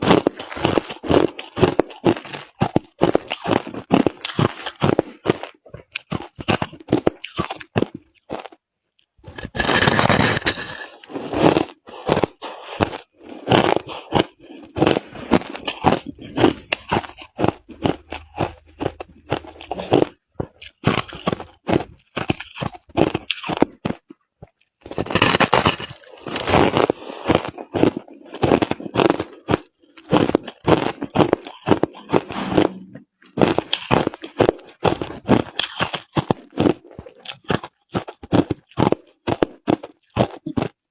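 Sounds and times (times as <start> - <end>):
crushed ice being chewed: 0.0 - 40.9.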